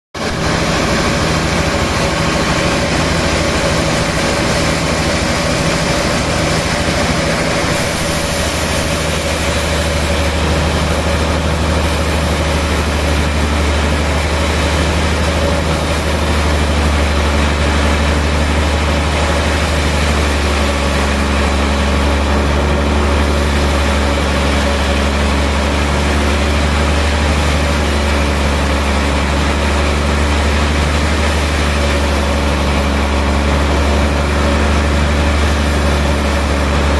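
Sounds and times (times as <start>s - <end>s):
sawmill machinery humming: 0.2s - 36.9s.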